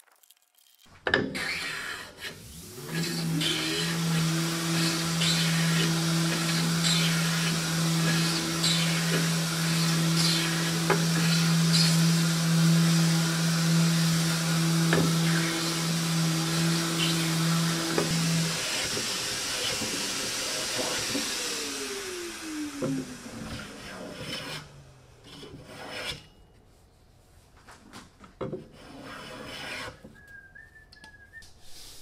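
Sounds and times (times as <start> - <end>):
hand plane shaving wood: 1.2 - 26.3, 28.6 - 30.2.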